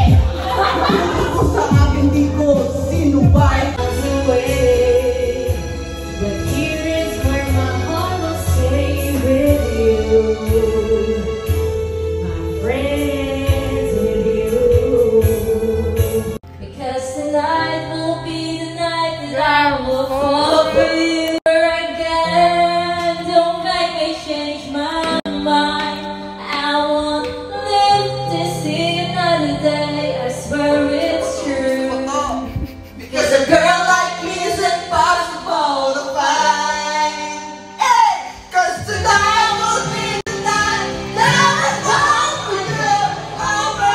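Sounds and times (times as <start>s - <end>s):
women singing karaoke: 0.0s - 11.7s, 12.5s - 43.9s
backing track music: 0.0s - 43.9s.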